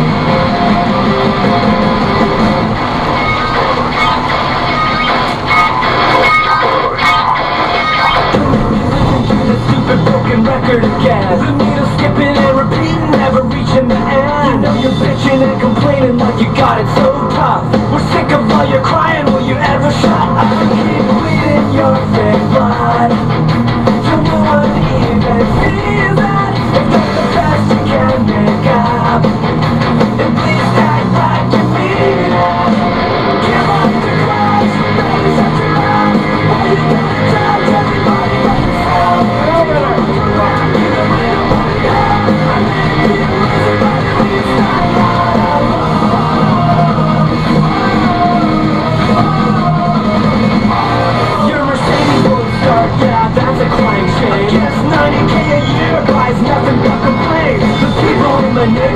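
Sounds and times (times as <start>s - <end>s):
rock music with electric guitar: 0.0s - 58.9s.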